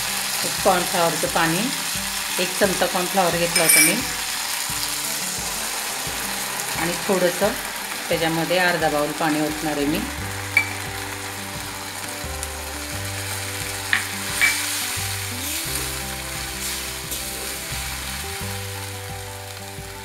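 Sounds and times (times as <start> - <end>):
food sizzling in a pan: 0.0 - 20.0
low background music: 0.0 - 20.0.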